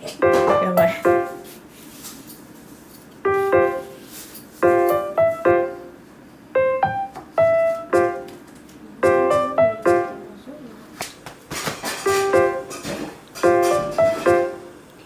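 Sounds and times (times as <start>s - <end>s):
piano music: 0.0s - 1.8s, 3.2s - 10.7s, 12.0s - 14.9s.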